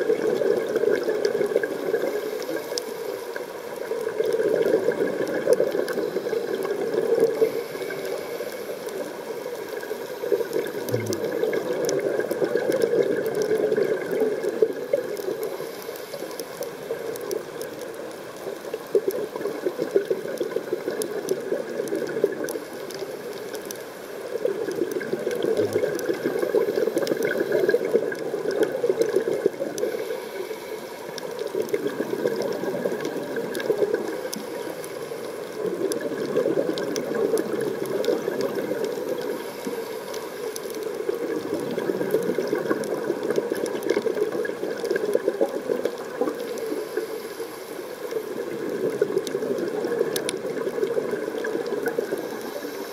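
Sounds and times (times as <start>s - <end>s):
underwater exhaust bubbles: 0.0s - 52.9s.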